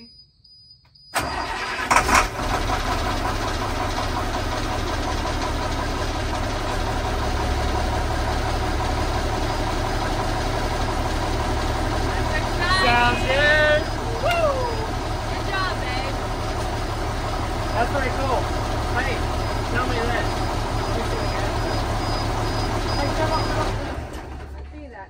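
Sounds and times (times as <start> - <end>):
truck engine starting and idling: 1.1 - 25.0.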